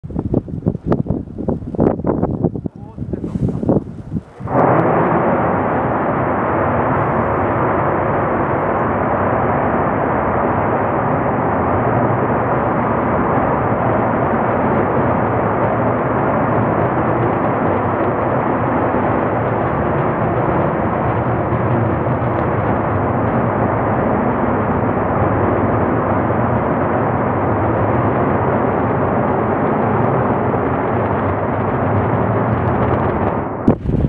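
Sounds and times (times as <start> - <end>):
rocket engines firing: 0.1 - 34.0.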